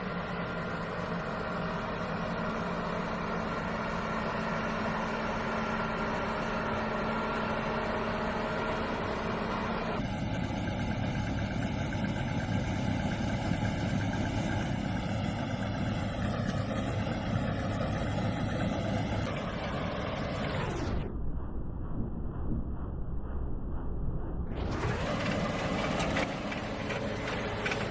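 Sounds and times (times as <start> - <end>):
diesel engines of heavy machinery: 0.0 - 27.9.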